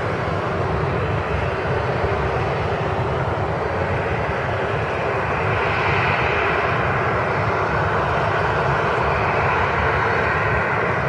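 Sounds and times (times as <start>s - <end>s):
jet engines: 0.0s - 11.0s.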